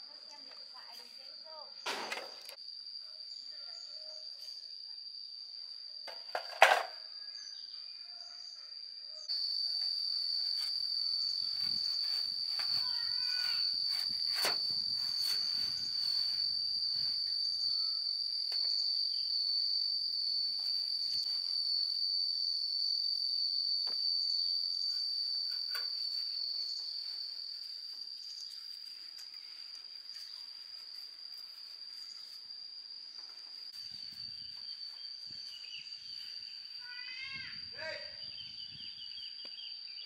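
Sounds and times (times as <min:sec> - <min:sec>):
high-pitched insect drone: 0:00.0 - 0:40.0.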